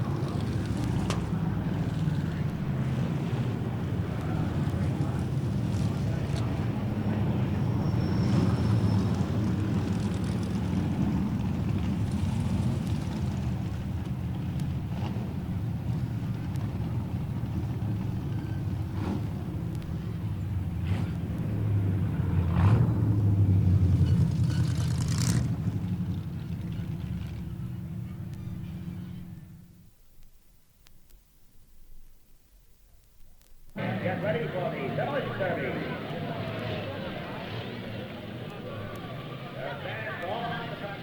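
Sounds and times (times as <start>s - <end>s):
car engines rumbling: 0.0s - 30.2s, 33.4s - 41.0s.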